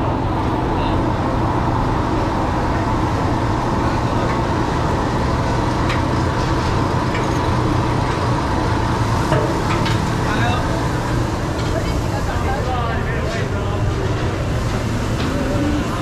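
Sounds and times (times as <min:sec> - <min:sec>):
ventilation fans droning: 0:00.0 - 0:16.0.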